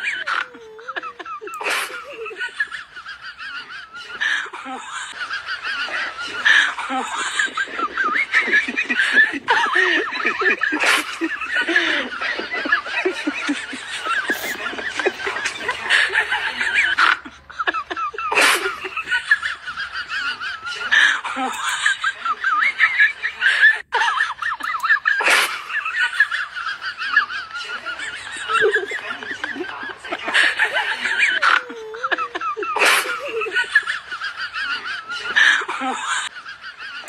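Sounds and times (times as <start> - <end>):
people laughing and chuckling: 0.0 - 37.0.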